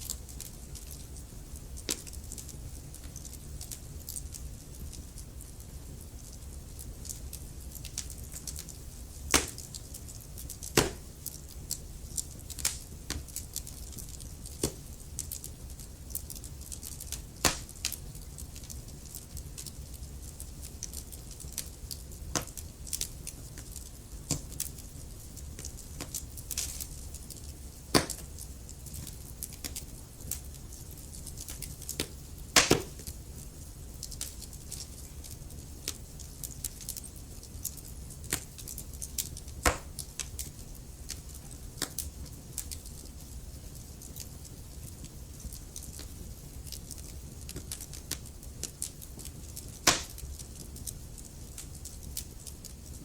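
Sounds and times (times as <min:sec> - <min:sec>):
fire crackles and pops: 0:00.0 - 0:53.0
low fire rumble: 0:00.0 - 0:53.0.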